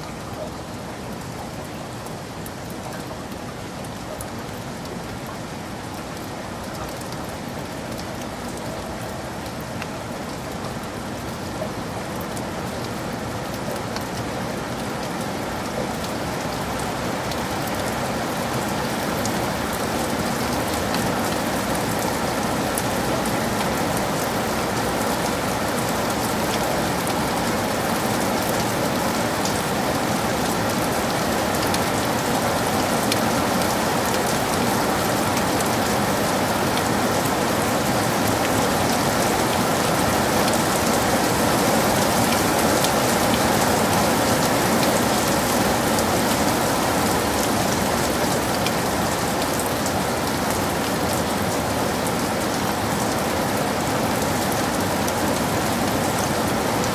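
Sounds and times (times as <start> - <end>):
heavy rain in a forest: 0.0 - 56.9.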